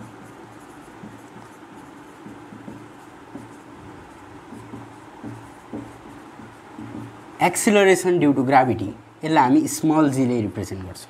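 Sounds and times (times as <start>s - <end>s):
marker writing on whiteboard: 0.0s - 10.8s.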